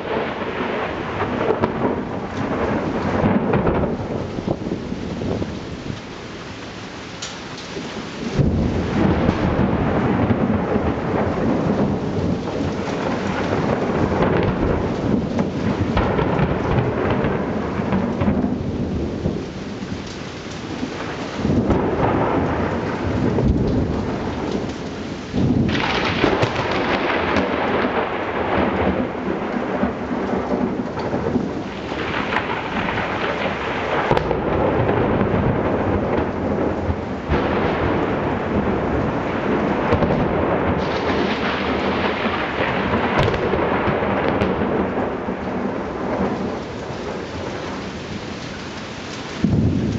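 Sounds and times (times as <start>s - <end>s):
rain hissing: 0.0s - 49.9s
thunder rumbling: 0.0s - 49.9s.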